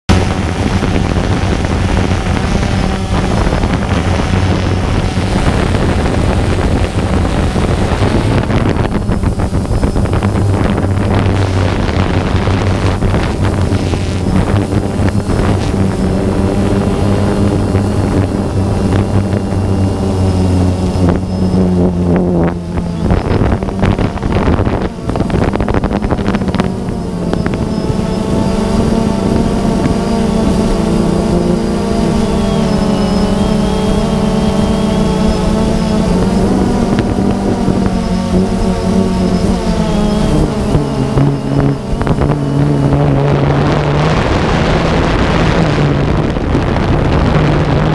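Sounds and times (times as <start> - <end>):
drone motors and propellers: 0.0 - 47.9
wind buffeting microphone: 0.1 - 47.9.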